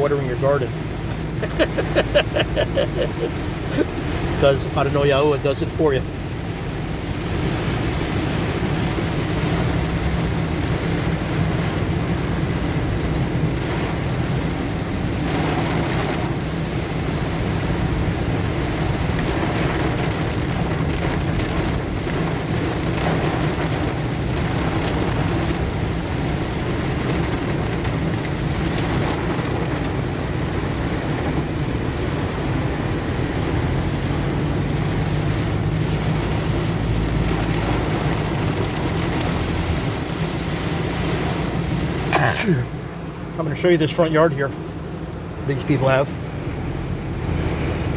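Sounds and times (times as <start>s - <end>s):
car road noise rumble: 0.0s - 47.9s
heavy rain on a car: 0.0s - 47.9s.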